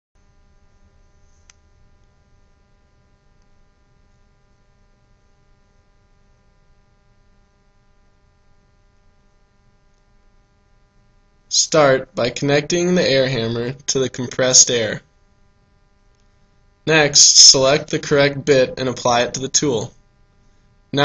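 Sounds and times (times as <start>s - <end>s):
faint electrical hum: 0.2s - 21.0s.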